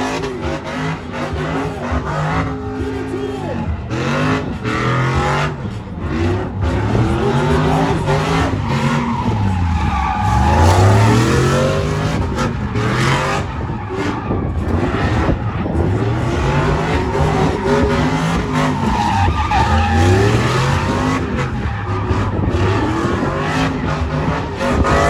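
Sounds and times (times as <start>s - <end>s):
tyres squealing: 0.0s - 24.3s
car engine revving: 0.0s - 25.0s.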